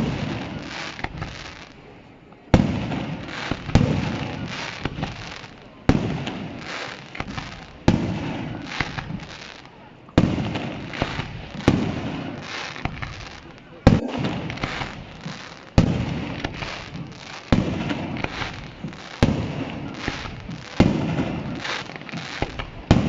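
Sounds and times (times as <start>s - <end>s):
firework crackles: 0.0s - 23.0s
firework shells bursting: 0.0s - 23.0s.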